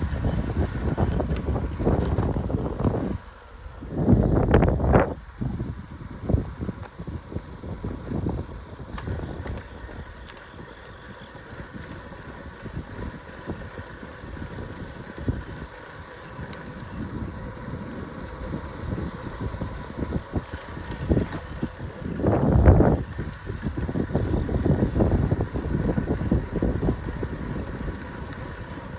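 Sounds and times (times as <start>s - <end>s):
bicycle rolling rumble: 0.0s - 28.9s
wind buffeting microphone: 0.0s - 28.9s.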